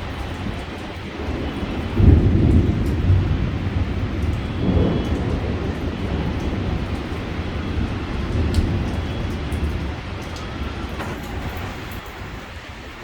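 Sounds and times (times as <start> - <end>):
rolling thunder: 0.0 - 13.0.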